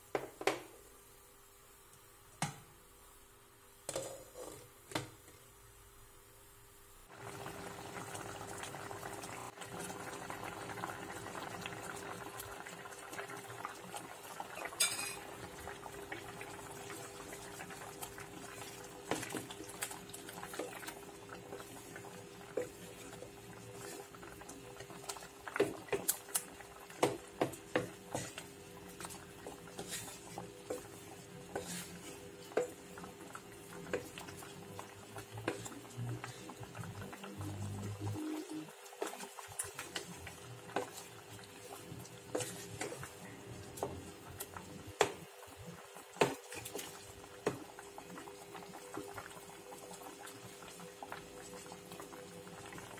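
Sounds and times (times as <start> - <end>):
curry bubbling in a pan: 7.1 - 52.9.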